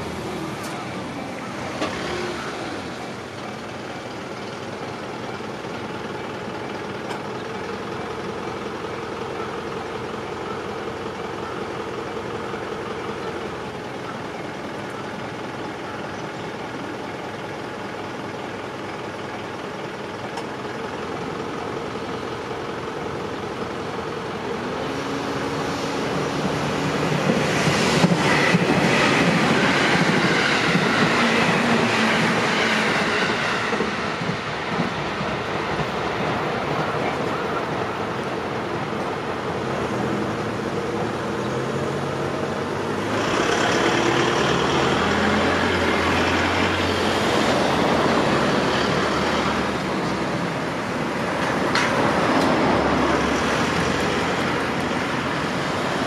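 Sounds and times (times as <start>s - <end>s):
train running: 0.0s - 56.0s.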